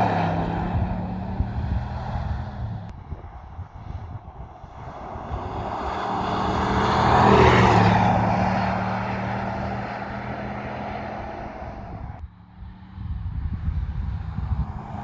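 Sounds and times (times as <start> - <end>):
pickup truck driving past: 0.0 - 3.5, 4.5 - 13.4.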